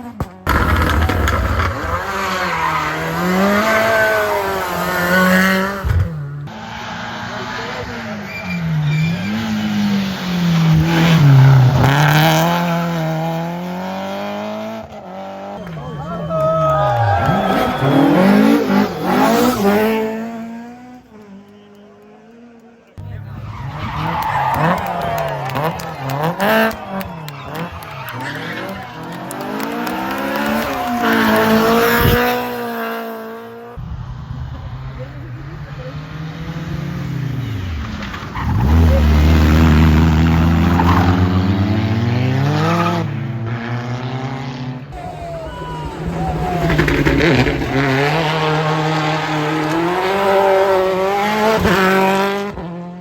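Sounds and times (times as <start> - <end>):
rally car engine revving: 0.0 - 16.3, 16.9 - 53.0.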